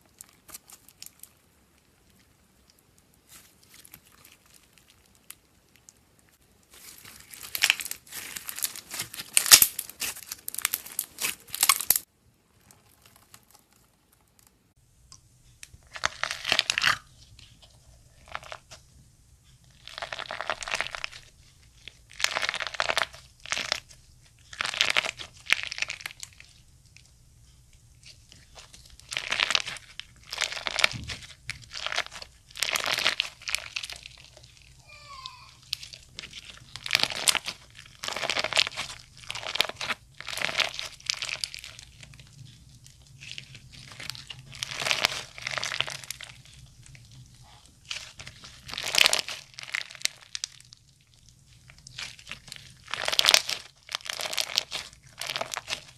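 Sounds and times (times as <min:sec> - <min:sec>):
slime crackling and popping: 0:00.0 - 0:14.8, 0:15.5 - 0:55.9
faint low hum: 0:00.0 - 0:55.9.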